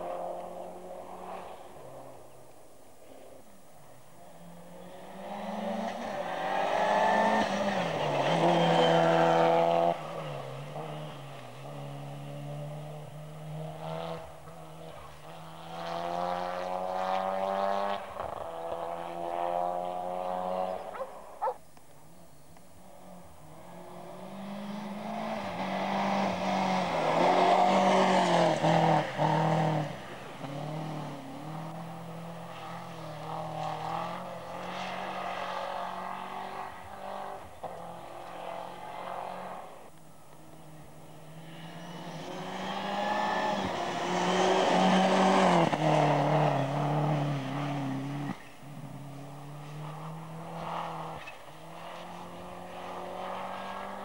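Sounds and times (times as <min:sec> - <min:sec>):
rally car engines at full throttle: 0:00.0 - 0:54.0.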